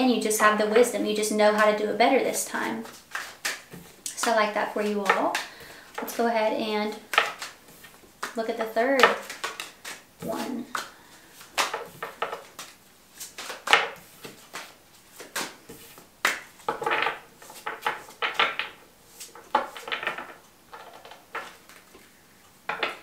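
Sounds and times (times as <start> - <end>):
cards being shuffled: 2.8 - 6.2, 6.9 - 22.1.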